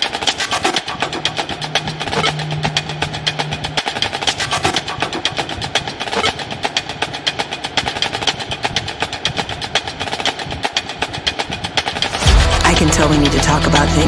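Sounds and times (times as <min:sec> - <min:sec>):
music with rapid percussion beat: 0:00.0 - 0:14.0.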